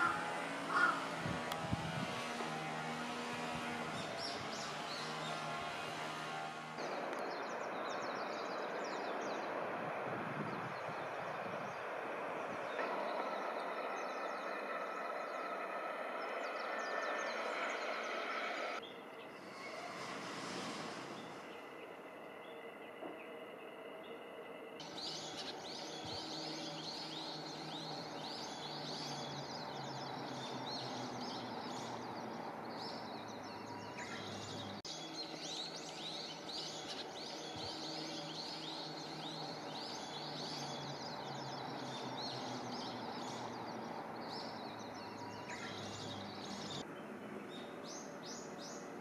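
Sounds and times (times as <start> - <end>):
birds chirping: 0.0 - 24.2, 24.8 - 49.0.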